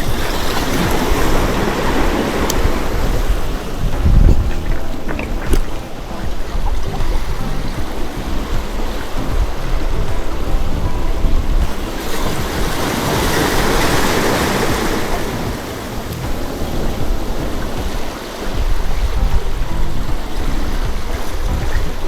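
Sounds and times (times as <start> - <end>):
sea waves washing on shore: 0.0 - 22.0
wind rumbling on microphone: 0.0 - 22.0.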